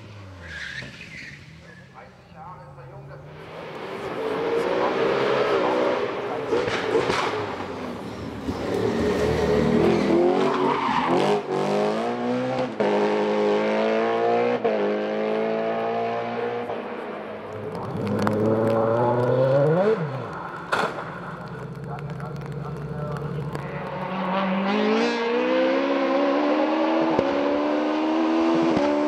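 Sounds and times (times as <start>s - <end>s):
race car engine revving: 2.8s - 29.0s.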